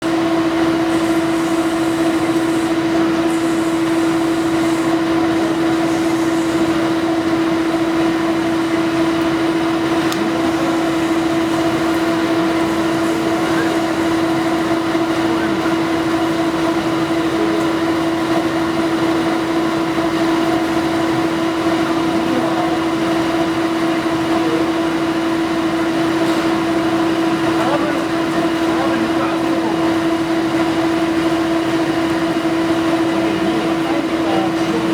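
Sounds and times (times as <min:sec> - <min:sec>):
milling machine humming: 0:00.0 - 0:34.9.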